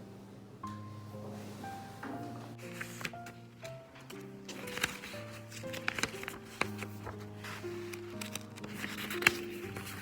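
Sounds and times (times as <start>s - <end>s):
background music sustained notes: 0.0s - 10.0s.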